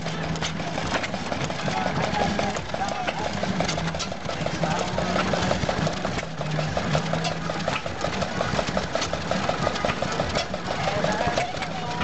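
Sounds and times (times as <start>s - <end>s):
stationary engine running: 0.0s - 12.0s.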